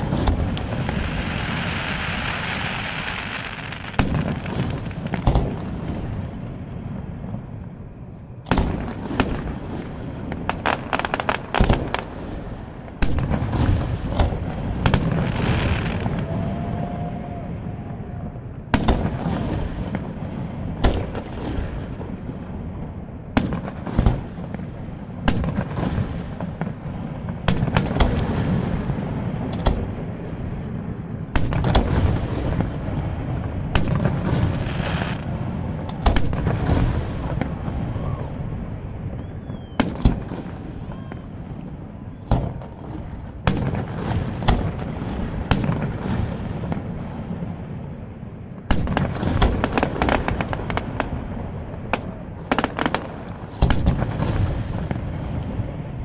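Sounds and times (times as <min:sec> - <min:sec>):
fireworks booming: 0:00.0 - 0:56.0
fireworks crackling: 0:00.0 - 0:56.0.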